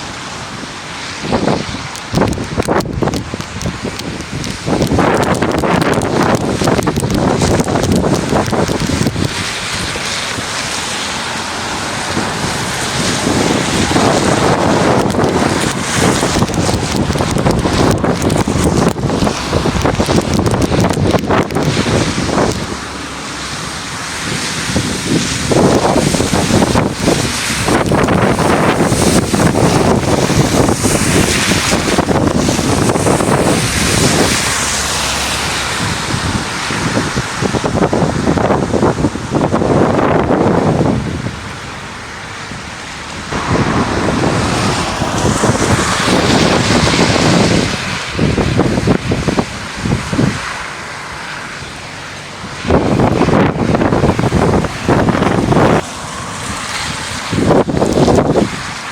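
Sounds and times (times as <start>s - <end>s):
gale wind buffeting microphone: 0.0s - 58.9s.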